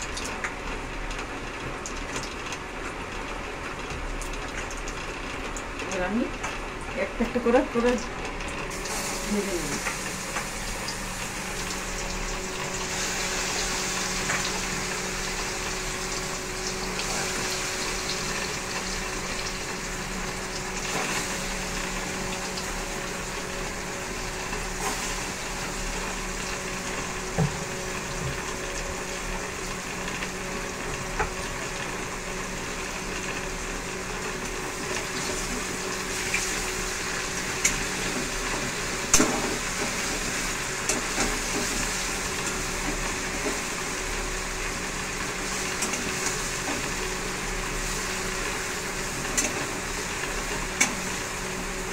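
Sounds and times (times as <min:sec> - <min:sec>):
oil sizzling: 0:06.5 - 0:51.9.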